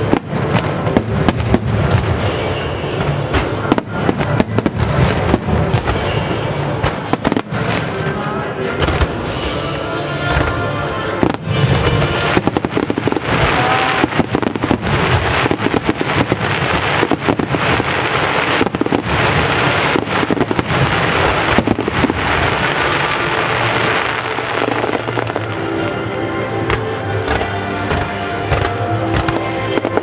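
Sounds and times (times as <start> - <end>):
fireworks bursting: 0.0 - 30.0
fireworks crackling: 0.0 - 30.0.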